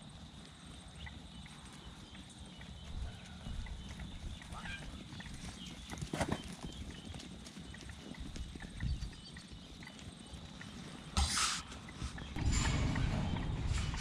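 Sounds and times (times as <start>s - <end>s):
sheep hooves clattering: 0.0s - 14.0s.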